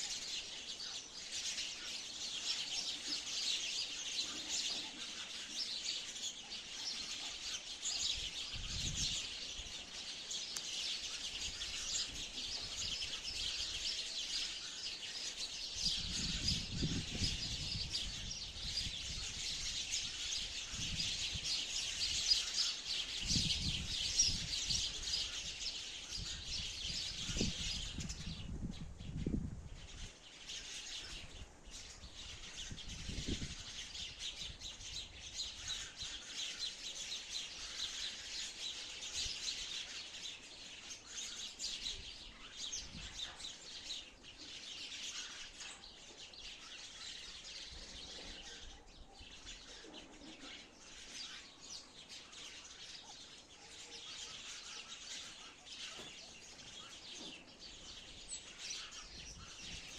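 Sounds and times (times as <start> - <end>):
sparrows chirping: 0.0 - 59.9.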